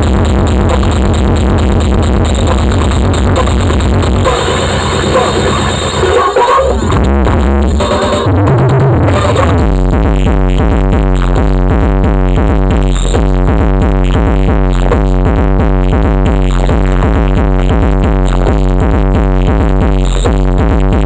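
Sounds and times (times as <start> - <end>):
loud electronic dance music: 0.0 - 21.0.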